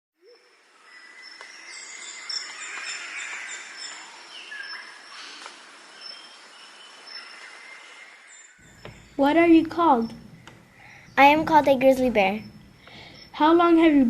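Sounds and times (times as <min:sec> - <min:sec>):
birds chirping and calling: 0:00.2 - 0:14.0
faint outdoor hiss: 0:00.2 - 0:14.0.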